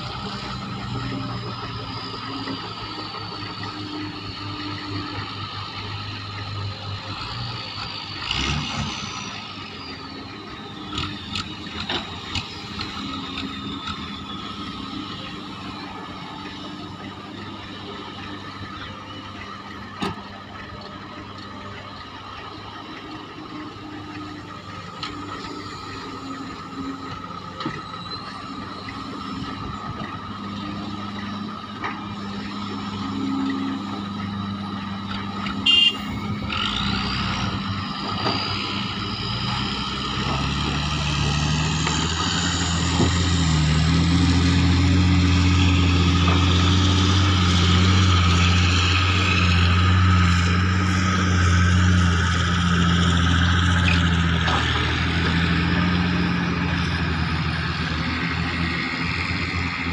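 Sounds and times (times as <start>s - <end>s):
engine revving: 0.0s - 21.4s, 23.4s - 59.9s
diesel engines running: 0.0s - 59.9s.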